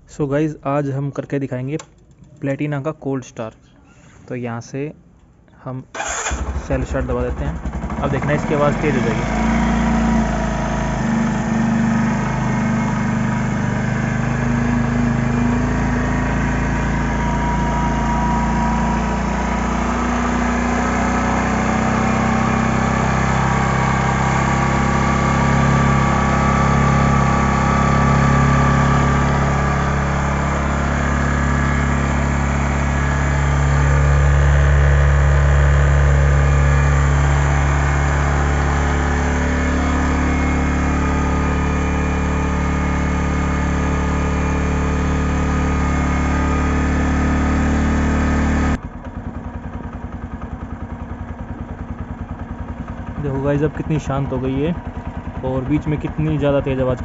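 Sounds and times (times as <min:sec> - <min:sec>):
motorcycle engine idling: 0:06.0 - 0:21.1, 0:21.7 - 0:47.0, 0:48.8 - 0:57.0.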